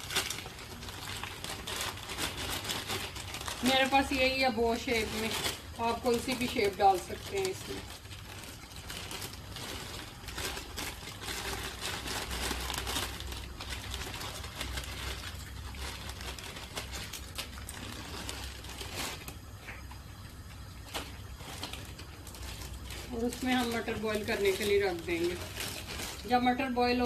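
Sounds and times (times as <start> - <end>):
boiling water hiss: 0.0 - 27.0
pasta crackles and clicks: 0.0 - 27.0
plastic bag crinkling: 0.0 - 27.0.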